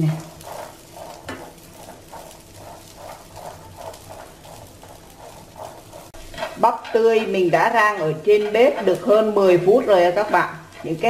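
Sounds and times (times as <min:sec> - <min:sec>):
light sizzle: 0:00.0 - 0:11.0
metal spoon scraping frying pan: 0:00.0 - 0:11.0.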